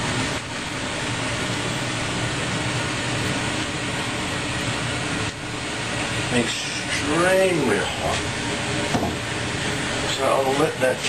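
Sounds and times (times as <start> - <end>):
stove burner rushing: 0.0 - 11.0.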